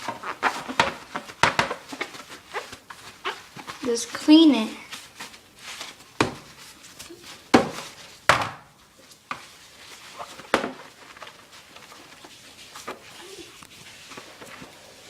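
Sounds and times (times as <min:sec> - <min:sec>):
handling and rubbing noise: 0:00.0 - 0:15.0.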